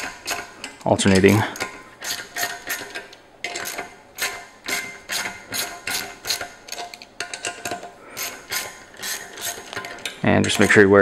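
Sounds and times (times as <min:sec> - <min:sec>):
ratcheting wrench clicking: 0:00.0 - 0:11.0.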